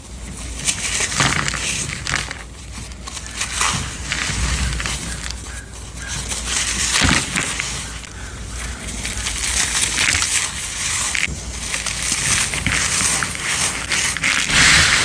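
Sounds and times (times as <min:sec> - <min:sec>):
powdery material crunching: 0:00.4 - 0:15.0.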